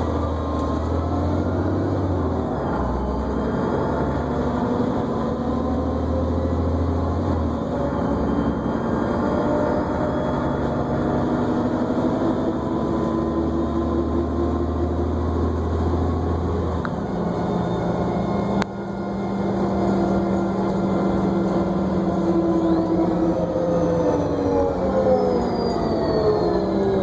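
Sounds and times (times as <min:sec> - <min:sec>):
bus engine drone with whine: 0:00.0 - 0:27.0.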